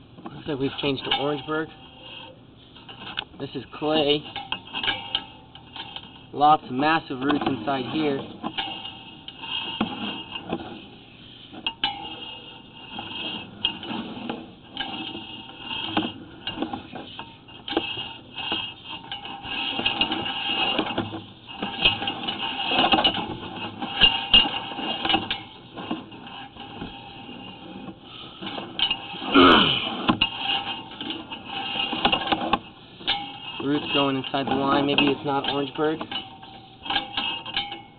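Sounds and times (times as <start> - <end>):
camera rod scraping in pipe: 0.2 - 37.9.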